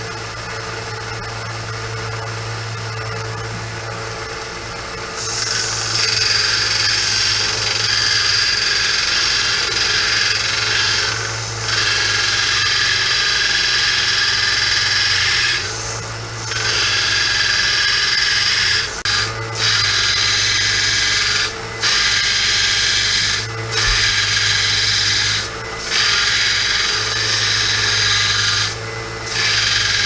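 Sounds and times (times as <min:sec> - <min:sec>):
sander motor hum: 0:00.0 - 0:30.0
gritty grinding of metal: 0:05.2 - 0:30.0.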